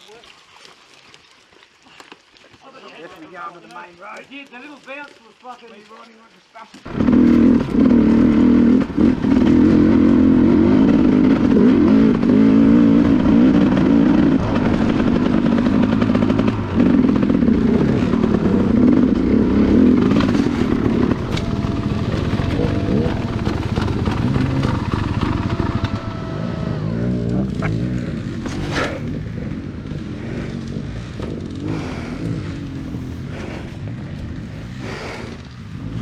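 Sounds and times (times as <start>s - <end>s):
dirt bike engine revving: 6.9s - 36.0s.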